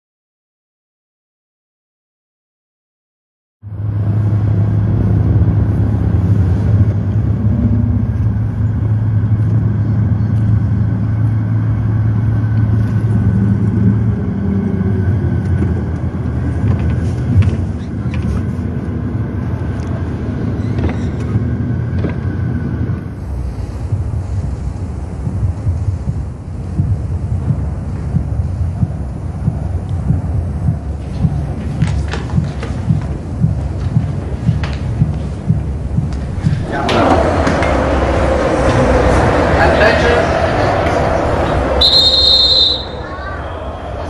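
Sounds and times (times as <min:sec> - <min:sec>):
car engine and road noise: 0:03.6 - 0:44.0.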